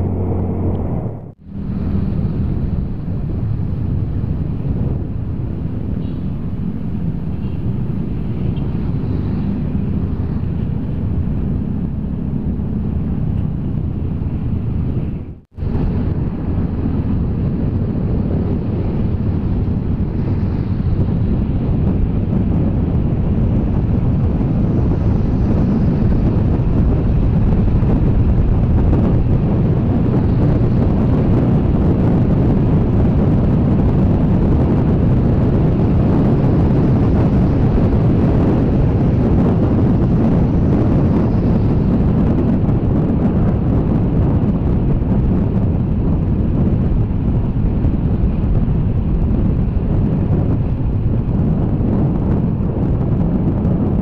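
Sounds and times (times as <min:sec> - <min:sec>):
scooter engine and tyre noise: 0:00.0 - 0:54.0
wind rushing over microphone: 0:00.0 - 0:54.0.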